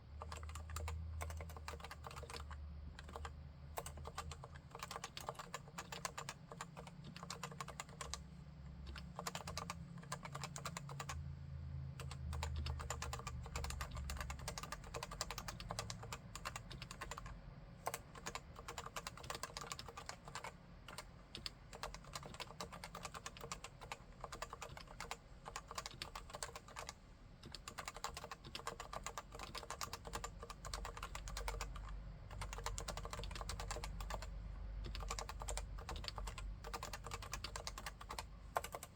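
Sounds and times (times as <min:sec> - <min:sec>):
keyboard typing: 0:00.2 - 0:11.2, 0:12.0 - 0:38.9.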